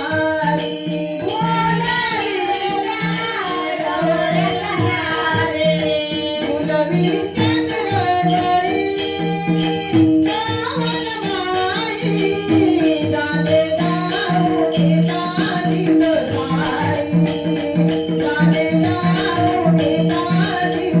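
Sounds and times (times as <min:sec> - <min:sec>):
group singing devotional song: 0:00.0 - 0:17.2
hand drum beat: 0:00.0 - 0:21.0
jingling cymbals: 0:00.0 - 0:21.0.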